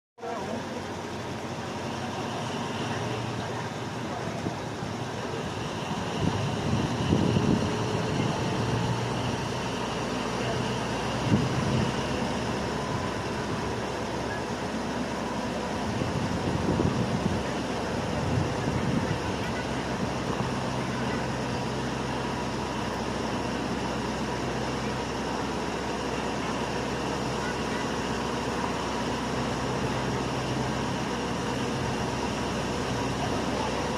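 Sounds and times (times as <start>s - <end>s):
locomotive engine rumble: 0.2s - 33.9s
train wheel and rail noise: 0.2s - 33.9s.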